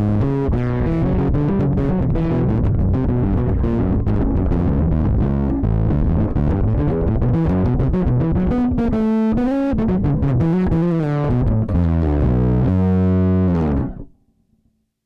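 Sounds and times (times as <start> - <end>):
overdriven electric bass: 0.0 - 14.2.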